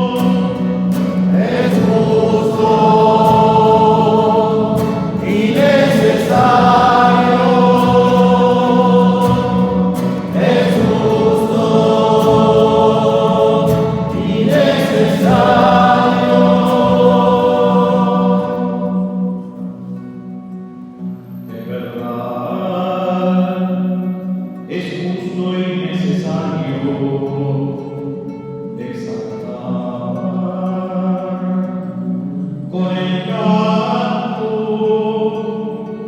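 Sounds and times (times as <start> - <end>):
choir singing: 0.0 - 20.5, 24.7 - 36.0.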